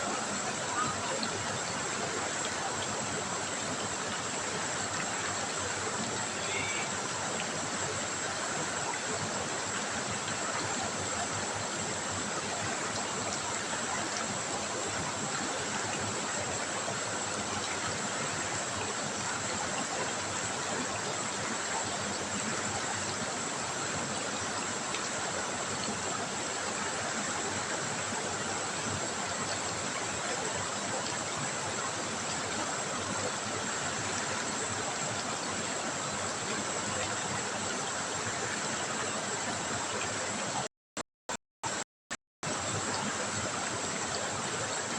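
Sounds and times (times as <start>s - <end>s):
river water trickling: 0.0s - 40.6s.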